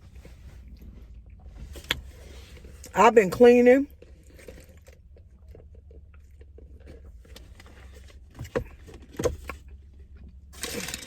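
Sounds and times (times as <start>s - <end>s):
car cabin hum: 0.0s - 10.6s.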